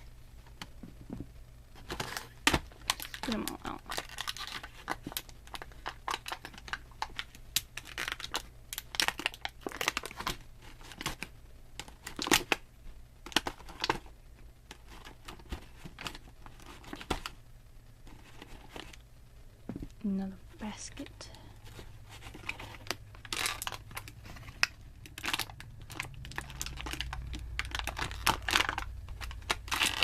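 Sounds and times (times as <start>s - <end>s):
plastic packaging crinkling: 1.8s - 12.6s, 13.2s - 17.4s, 20.6s - 30.0s.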